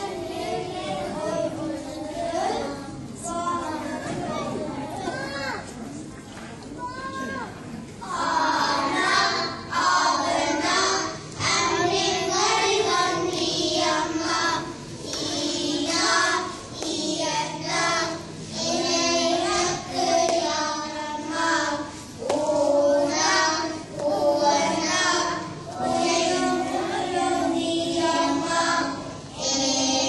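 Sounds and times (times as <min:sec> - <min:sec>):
children singing: 0:00.0 - 0:04.6, 0:08.0 - 0:30.0.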